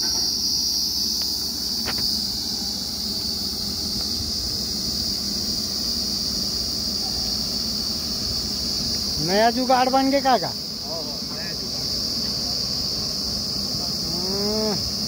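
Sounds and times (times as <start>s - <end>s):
crickets chirring: 0.0s - 15.0s
drilling rig engine rumble: 0.0s - 15.0s.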